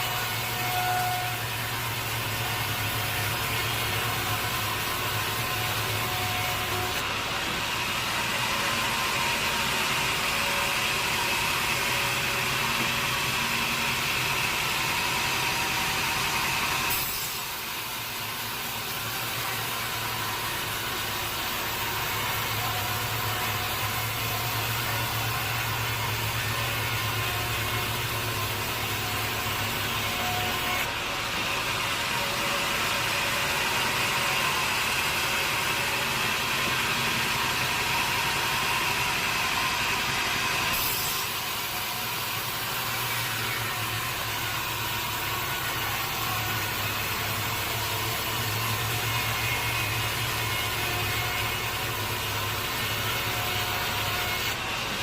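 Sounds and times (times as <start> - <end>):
sawmill saw and engine running: 0.0 - 55.0.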